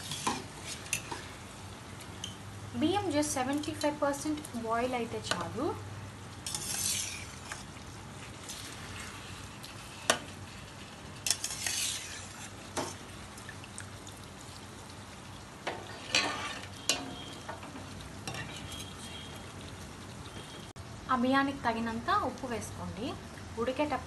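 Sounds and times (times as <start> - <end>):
water boiling in a pot: 0.0 - 24.0.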